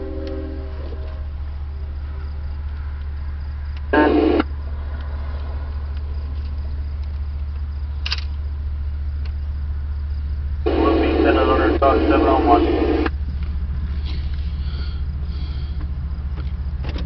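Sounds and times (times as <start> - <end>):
radio scanner low hum: 0.0 - 16.5.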